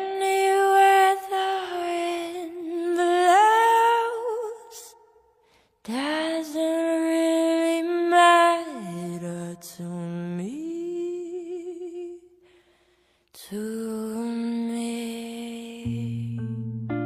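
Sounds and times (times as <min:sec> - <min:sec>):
woman singing wordless notes: 0:00.0 - 0:04.9, 0:05.9 - 0:12.3, 0:13.4 - 0:16.6.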